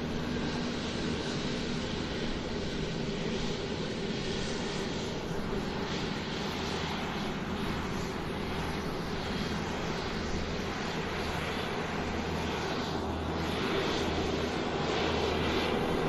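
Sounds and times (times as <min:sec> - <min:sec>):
airplane engines during takeoff: 0:00.0 - 0:16.0.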